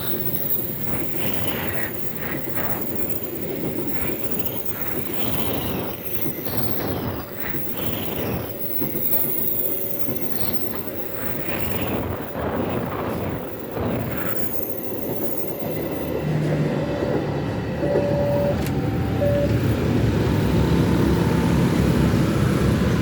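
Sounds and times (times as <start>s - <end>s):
train rumbling over rails: 0.0s - 23.0s.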